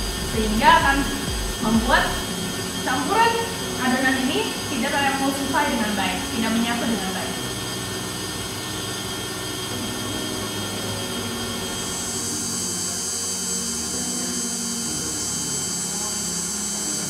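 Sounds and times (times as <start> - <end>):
stand mixer motor whine: 0.0 - 17.0.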